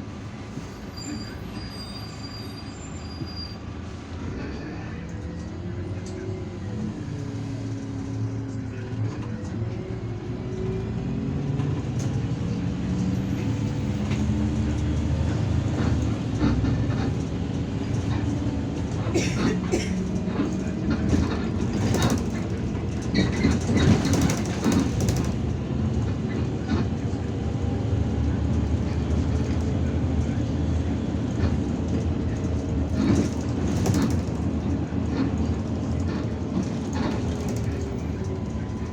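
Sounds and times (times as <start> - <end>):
bus body rattling: 0.0 - 38.9
bus engine drone: 0.0 - 38.9.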